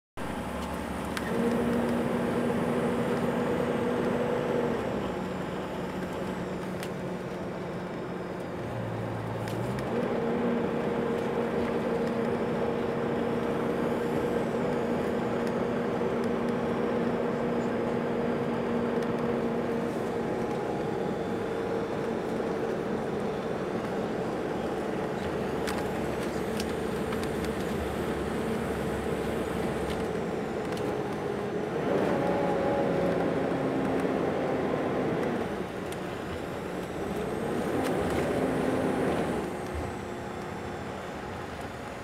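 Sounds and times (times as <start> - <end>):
engine hum: 0.2 - 42.0
road noise inside vehicle: 0.2 - 42.0.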